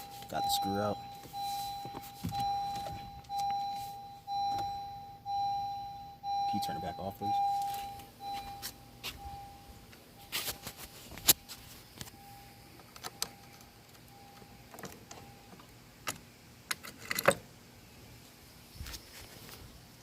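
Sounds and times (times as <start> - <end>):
faint steady tone: 0.0 - 20.0.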